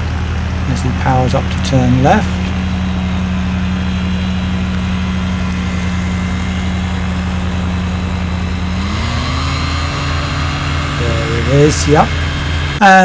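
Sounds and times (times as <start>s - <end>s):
microlight engine and propeller: 0.0s - 13.0s.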